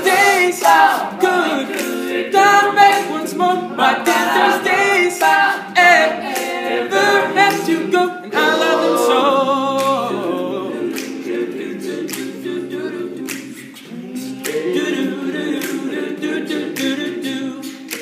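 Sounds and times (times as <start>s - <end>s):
beatboxed percussion hits: 0.0s - 18.0s
men singing backing chords: 0.0s - 18.0s.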